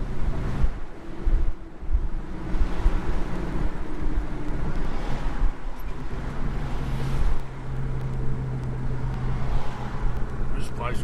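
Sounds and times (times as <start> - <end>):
wind buffeting microphone: 0.0 - 10.6
engine hum: 0.0 - 11.0
road and engine rumble: 0.0 - 11.0.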